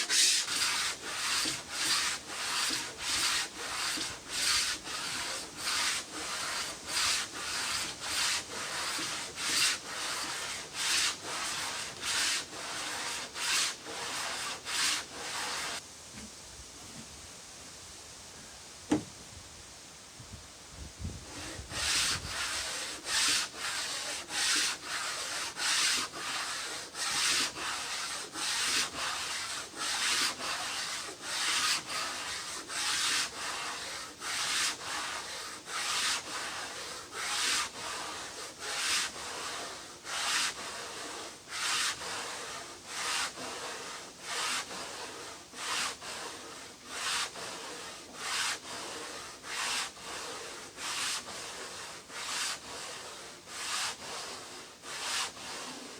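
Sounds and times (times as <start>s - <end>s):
wood being sanded by hand: 0.0s - 15.8s, 21.2s - 55.9s.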